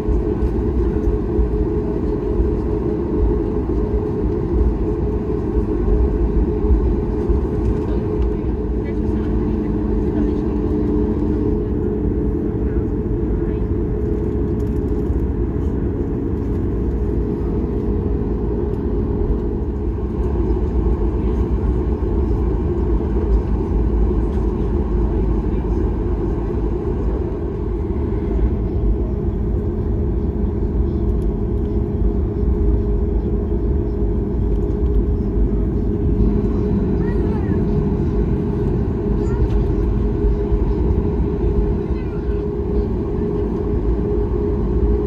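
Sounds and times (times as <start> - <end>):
airliner cabin rumble and hiss: 0.0 - 45.0.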